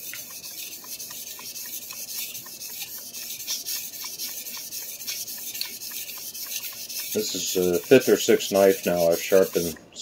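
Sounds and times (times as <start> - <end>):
knife rasping on whetstone: 0.0 - 9.8.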